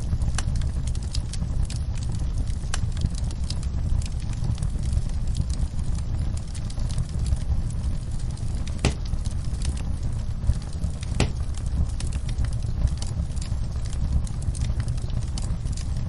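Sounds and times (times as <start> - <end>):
fire crackles: 0.0 - 16.0
fire rumbling in fireplace: 0.0 - 16.0
sharp fire pops: 0.0 - 16.0.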